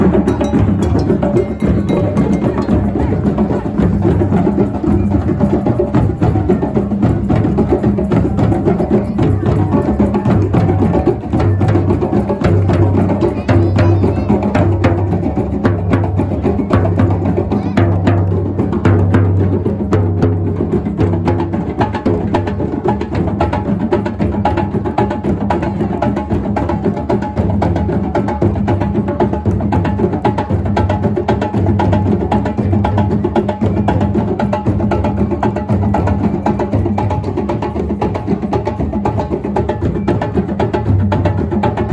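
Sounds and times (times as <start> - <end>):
drumming: 0.0 - 41.9.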